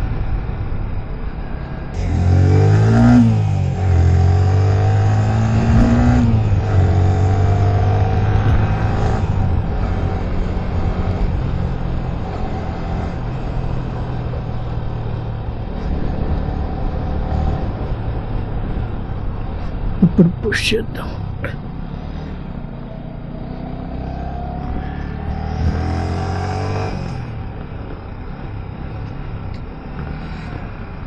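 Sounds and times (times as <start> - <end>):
motorcycle engine accelerating: 2.0 - 19.1, 21.8 - 31.0.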